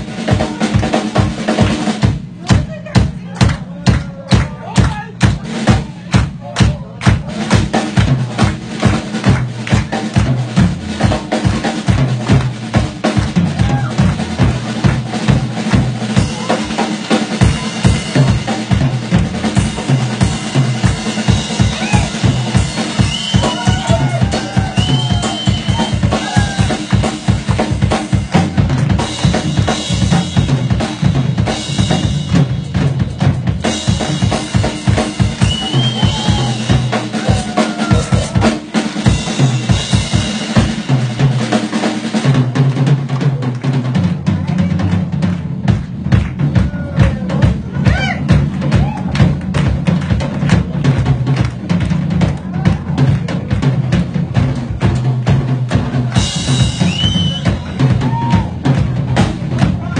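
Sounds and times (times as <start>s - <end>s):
drum solo on drum kit: 0.0s - 59.9s.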